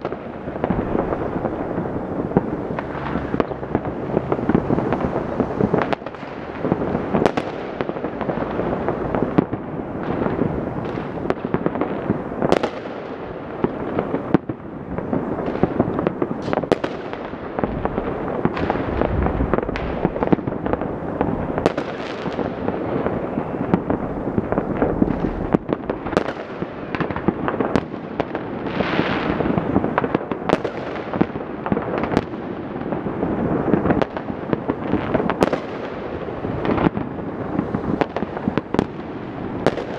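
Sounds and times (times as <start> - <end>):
fireworks crackling: 0.0 - 39.9
sharp loud firework reports: 0.0 - 39.9.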